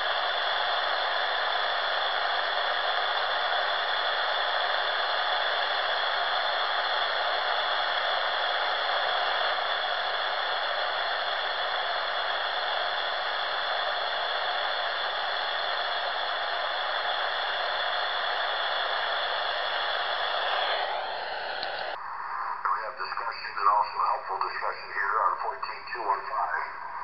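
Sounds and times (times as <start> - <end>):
faint steady whistles: 0.0 - 24.4
radio static hiss: 0.0 - 27.0.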